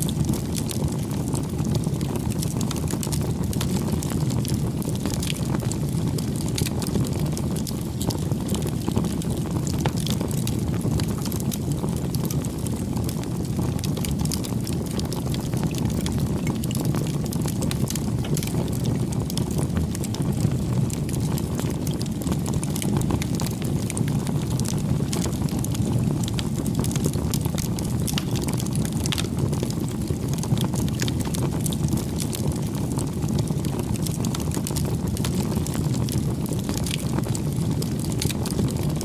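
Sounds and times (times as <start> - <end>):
campfire crackling: 0.0 - 39.0
low rush of flames: 0.0 - 39.0.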